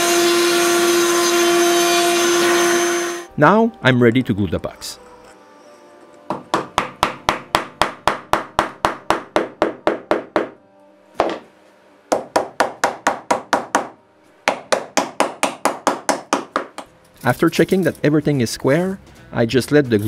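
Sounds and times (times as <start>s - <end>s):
quiet background music: 0.7s - 20.0s.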